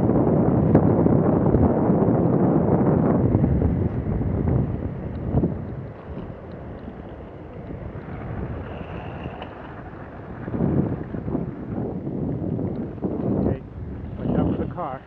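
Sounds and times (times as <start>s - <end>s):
skate wheels rolling on asphalt: 0.0s - 15.0s
wind buffeting microphone: 0.0s - 15.0s.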